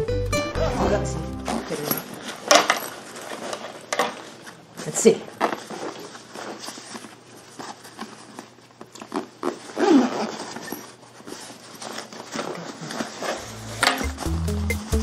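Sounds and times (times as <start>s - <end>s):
fabric rustling: 1.5s - 14.3s.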